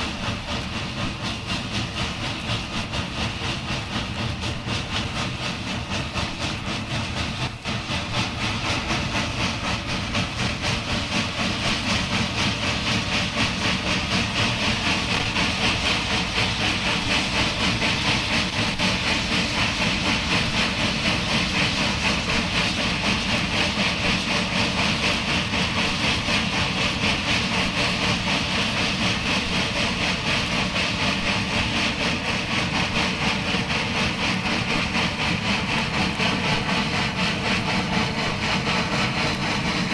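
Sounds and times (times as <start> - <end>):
steam locomotive exhaust beats: 0.0 - 39.9.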